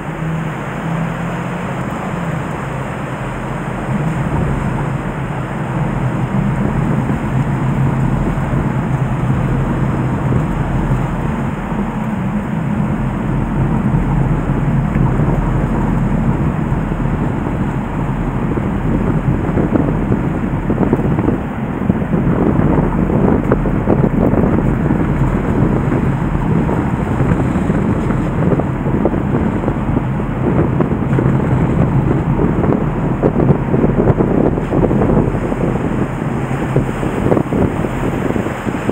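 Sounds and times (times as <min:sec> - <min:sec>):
flooded river rushing: 0:00.0 - 0:38.9
wind buffeting microphone: 0:00.0 - 0:38.9.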